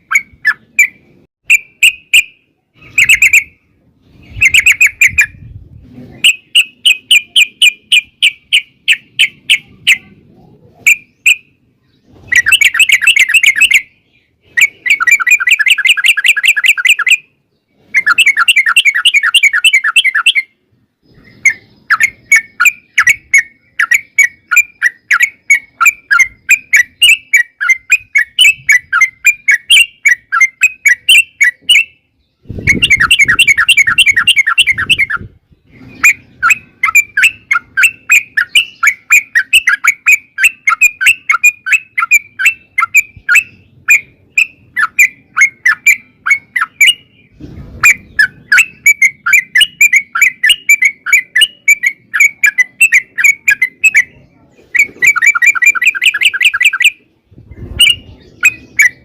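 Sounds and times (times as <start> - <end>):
bird chirping and trilling: 0.0 - 59.0.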